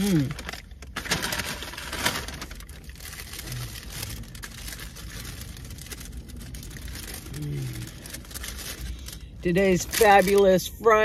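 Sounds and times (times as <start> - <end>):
paper wrappers rustling: 0.0 - 10.7.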